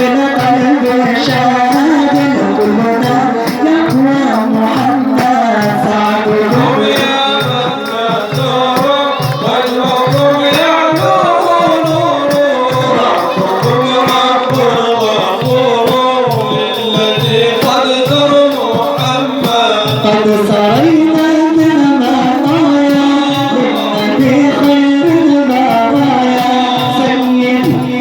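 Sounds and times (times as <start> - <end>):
person singing devotional song: 0.0 - 28.0
steady low drum beat: 0.0 - 28.0.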